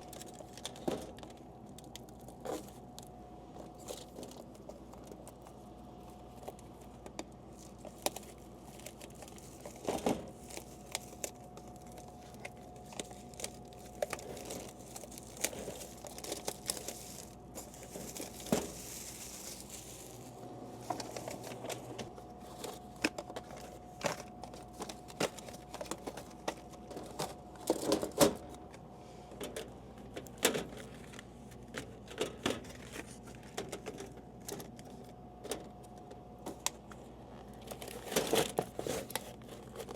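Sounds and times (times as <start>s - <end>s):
plastic bags crinkling: 0.0s - 28.8s, 36.4s - 39.9s
faint steady hum: 0.0s - 39.9s.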